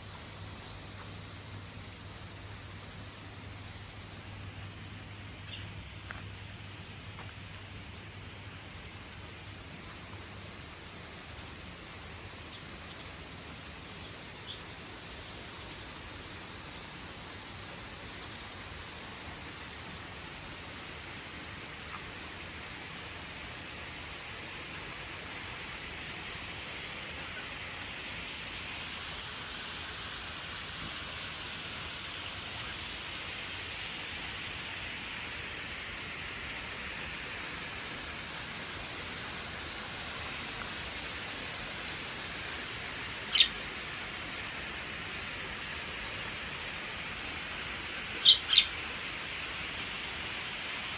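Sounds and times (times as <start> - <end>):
outdoor nature hiss: 0.0 - 50.9.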